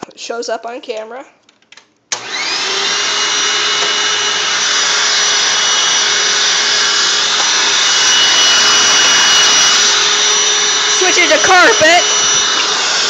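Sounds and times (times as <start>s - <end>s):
vacuum cleaner motor whine: 2.2s - 13.0s.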